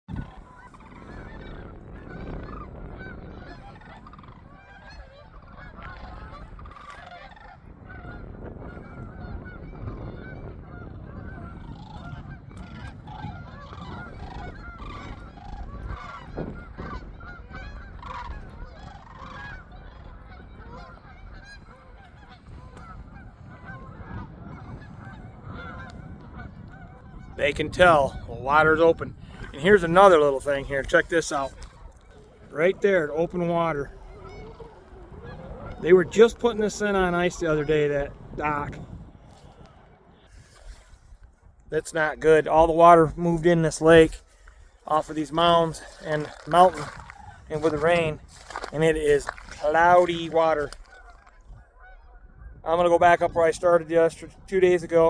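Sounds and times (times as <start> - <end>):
flock of geese honking: 0.1 - 55.0.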